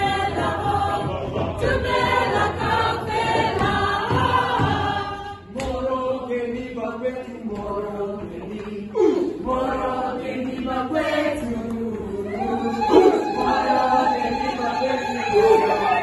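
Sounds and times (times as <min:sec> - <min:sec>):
choir singing chant-like refrain: 0:00.0 - 0:16.0.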